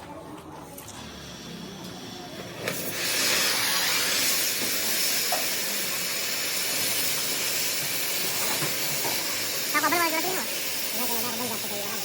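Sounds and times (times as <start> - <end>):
loud steady hiss: 1.2 - 12.0.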